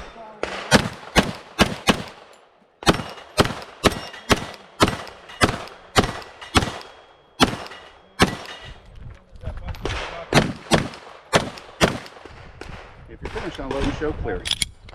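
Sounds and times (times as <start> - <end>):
rapid pistol shots: 0.4 - 8.8, 9.8 - 14.1.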